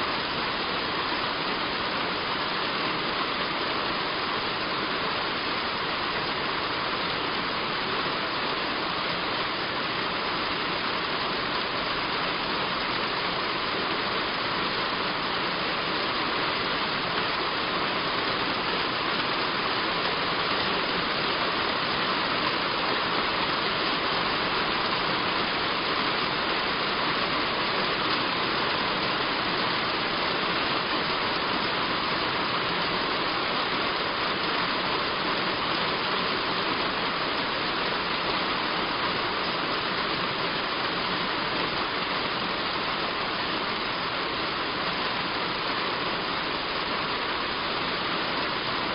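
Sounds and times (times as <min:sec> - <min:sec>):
heavy rain on a roof: 0:00.0 - 0:48.9.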